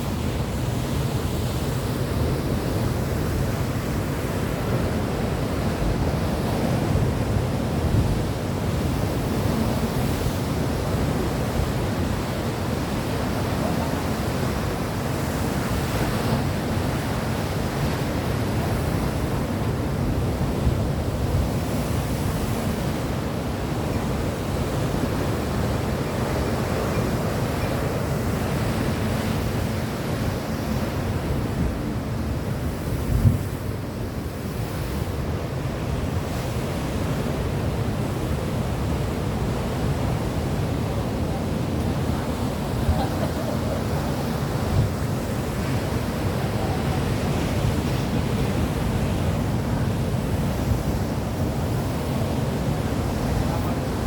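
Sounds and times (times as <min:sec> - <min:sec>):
sea surf rushing: 0:00.0 - 0:54.0
wind rumbling on microphone: 0:00.0 - 0:54.0.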